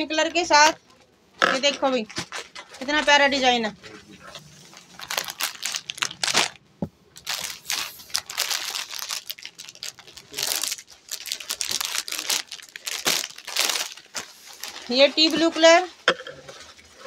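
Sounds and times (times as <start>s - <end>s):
plastic packaging crinkling: 2.1s - 15.9s.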